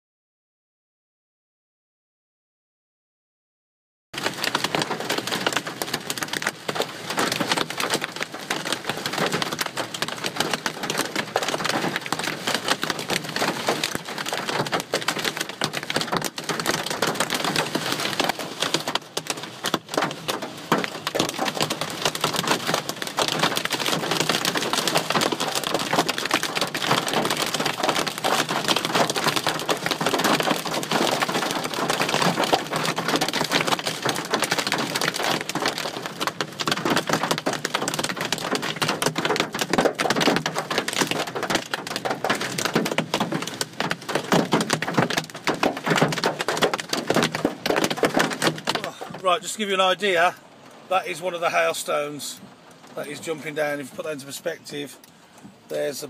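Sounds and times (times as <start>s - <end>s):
hail hammering on car roof: 4.2s - 51.7s.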